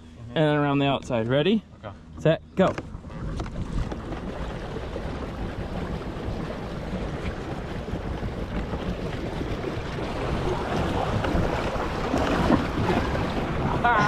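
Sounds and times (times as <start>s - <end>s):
water rushing along kayak hulls: 2.6s - 14.0s
wind buffeting microphone: 2.7s - 14.0s.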